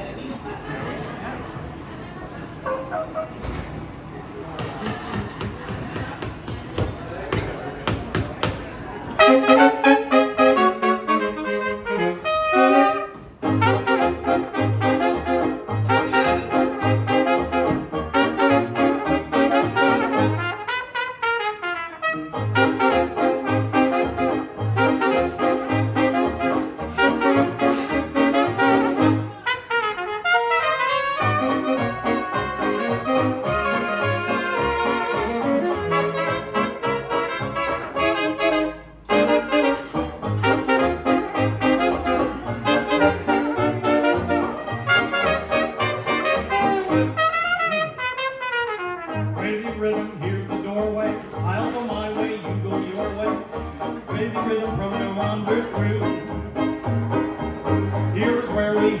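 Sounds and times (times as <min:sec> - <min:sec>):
jazz band playing: 0:02.0 - 0:59.0
banjo and string bass beat: 0:09.2 - 0:29.6, 0:31.1 - 0:59.0
brass and reed horns: 0:09.2 - 0:59.0.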